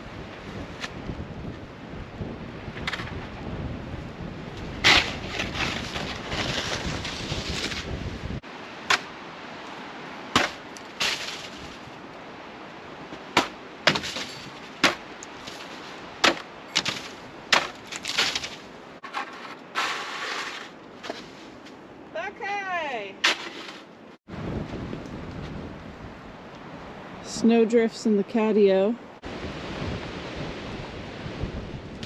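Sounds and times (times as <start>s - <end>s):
rumbling storm wind: 0.0s - 32.0s.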